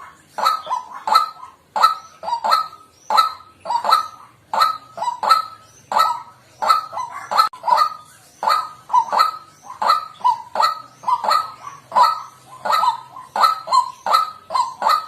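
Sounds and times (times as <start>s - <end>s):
waterhen harsh kwak calls: 0.0s - 15.0s.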